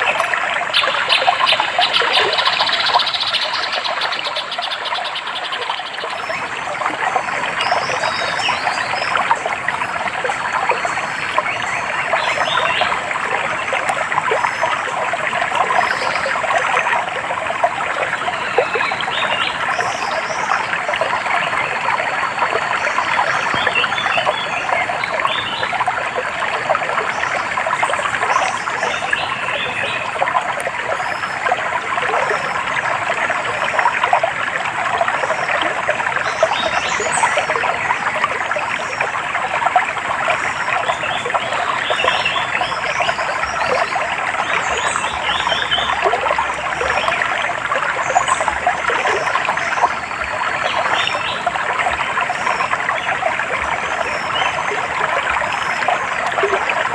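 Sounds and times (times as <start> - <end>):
stream water trickling: 0.0 - 56.9.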